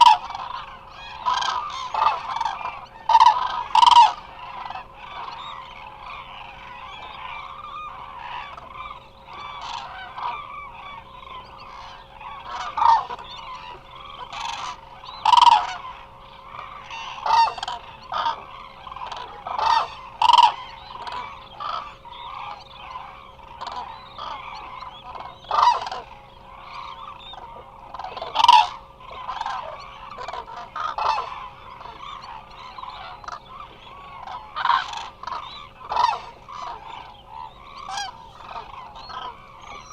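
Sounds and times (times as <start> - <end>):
flock of cranes calling: 0.0 - 39.9.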